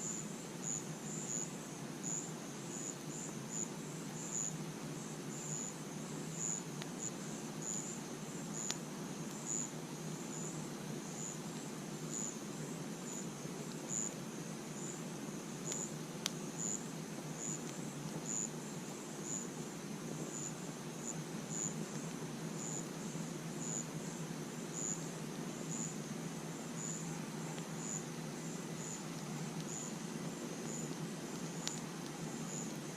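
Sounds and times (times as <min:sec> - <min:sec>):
campfire crackles: 0:00.0 - 0:32.9
crickets chirping: 0:00.0 - 0:32.9
steady low hiss: 0:00.0 - 0:32.9.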